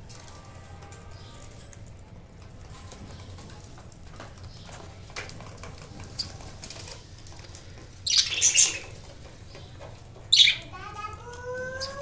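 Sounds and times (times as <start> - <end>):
faint clicks and scratches: 0.0 - 12.0.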